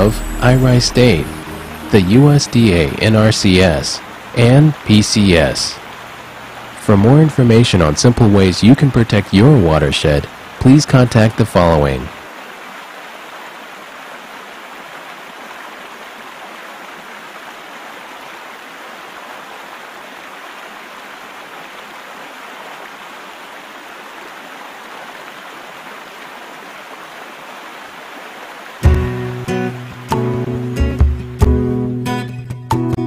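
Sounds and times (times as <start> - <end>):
stream water running: 0.0 - 30.8.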